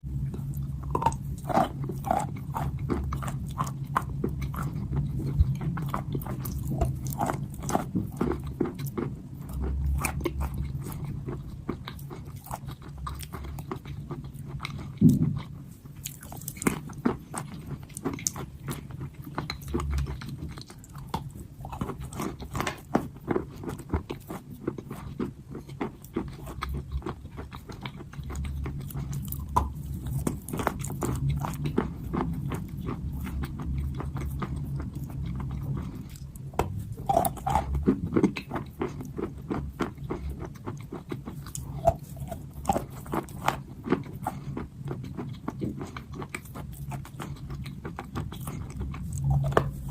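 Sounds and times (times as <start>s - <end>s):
chalk crunching while chewed: 0.2s - 49.9s.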